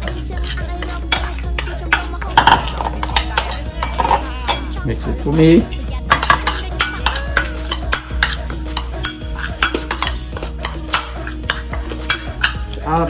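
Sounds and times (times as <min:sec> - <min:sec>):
fork scraping ceramic bowl: 0:00.0 - 0:04.8, 0:05.7 - 0:12.9.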